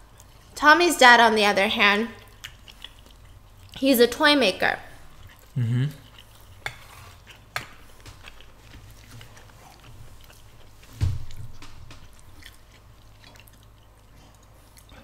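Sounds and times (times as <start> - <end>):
chewing food: 0.0 - 0.6, 1.5 - 15.0.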